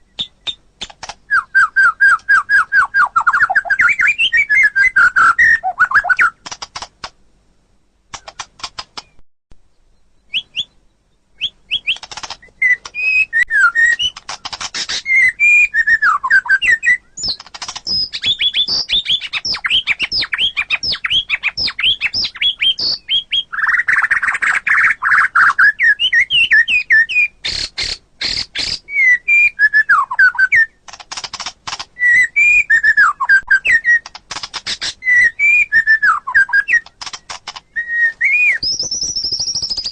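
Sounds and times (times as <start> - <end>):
bird whistling song: 0.0 - 0.7, 1.3 - 6.4, 9.0 - 30.8, 32.0 - 39.9.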